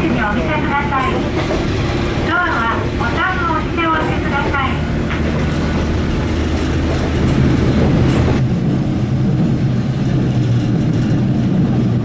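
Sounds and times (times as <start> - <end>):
diesel railcar drone: 0.0 - 12.0.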